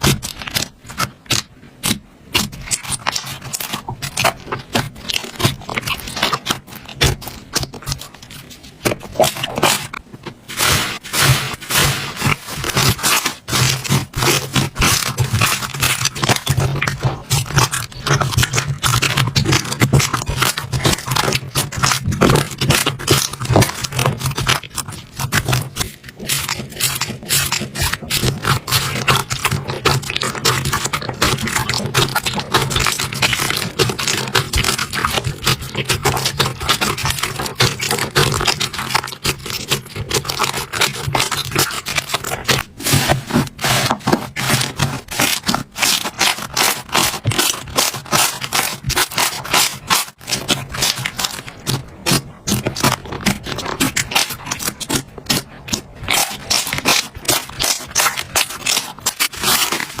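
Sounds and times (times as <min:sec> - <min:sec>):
slime crackling and popping: 0:00.0 - 1:00.0.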